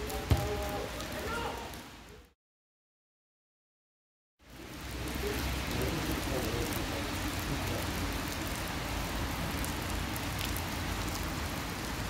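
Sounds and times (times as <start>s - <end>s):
heavy rain falling: 0.0s - 2.3s, 4.4s - 12.0s.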